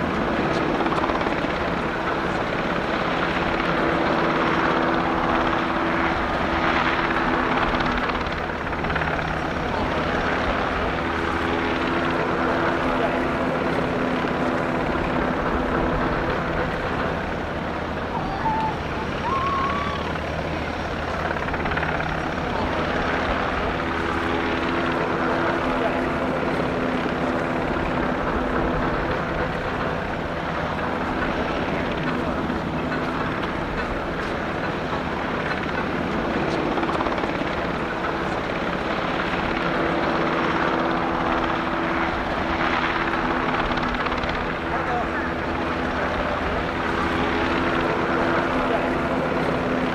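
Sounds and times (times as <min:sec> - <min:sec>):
helicopter in flight: 0:00.0 - 0:49.9.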